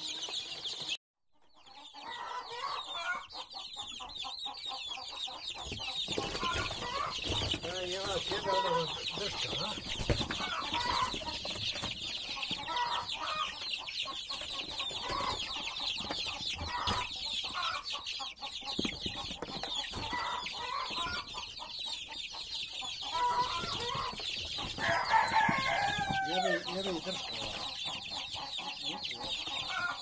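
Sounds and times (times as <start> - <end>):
chickens clucking: 0.0 - 30.0
chicks peeping: 0.0 - 30.0.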